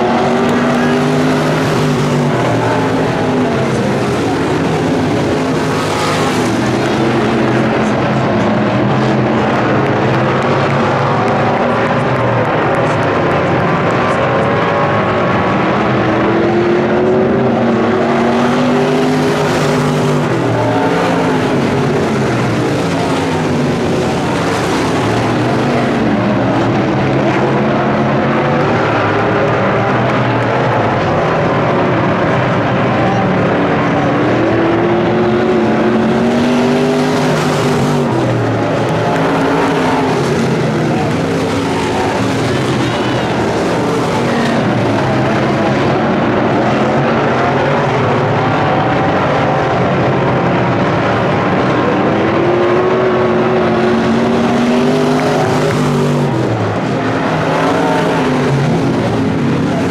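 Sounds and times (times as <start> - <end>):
race car engines revving and passing: 0.0 - 59.9.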